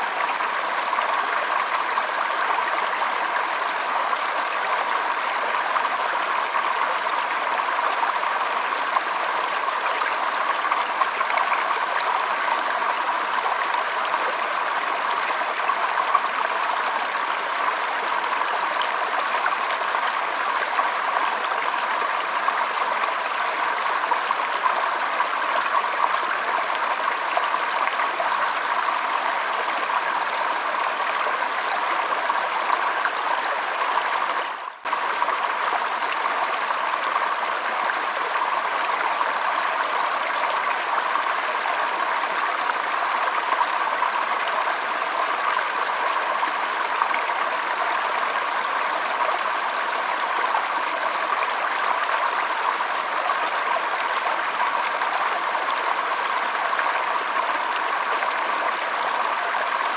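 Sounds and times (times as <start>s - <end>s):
stream trickling over its bed: 0.0s - 59.9s.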